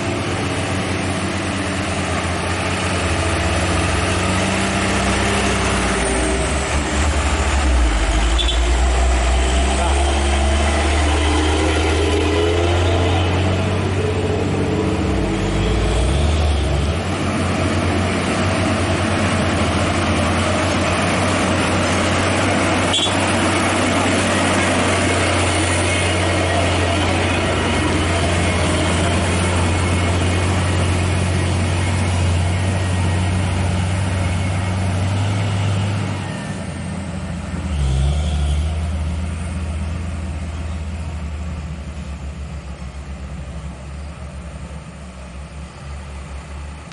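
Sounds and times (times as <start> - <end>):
diesel truck engine under load: 0.0 - 46.9.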